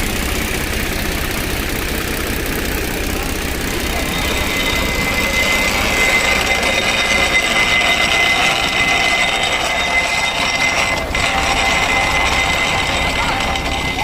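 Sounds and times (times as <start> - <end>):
high-pitched whine: 0.0 - 14.0
tractor engine drone: 0.0 - 14.0.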